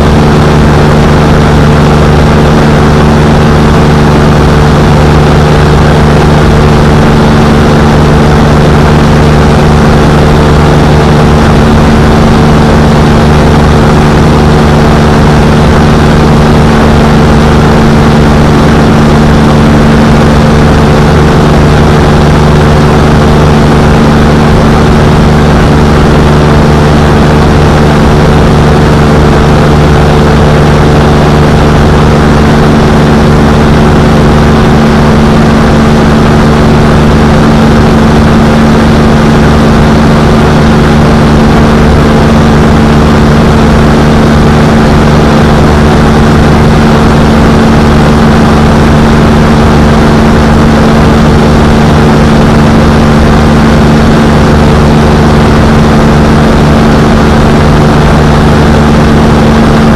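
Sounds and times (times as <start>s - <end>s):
rushing wind noise: 0.0s - 59.9s
ultralight engine and propeller: 0.0s - 59.9s.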